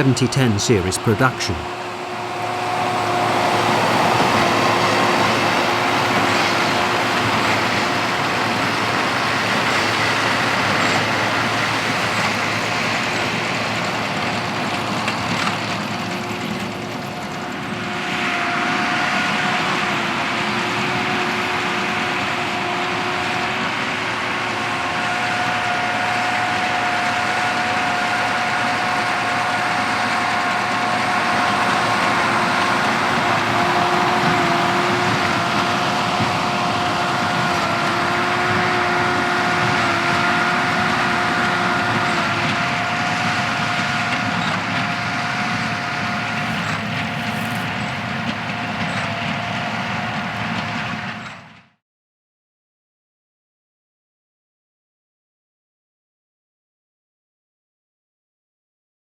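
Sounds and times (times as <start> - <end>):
tractor and baler running: 0.0 - 51.6
steady machine whine: 1.5 - 51.2.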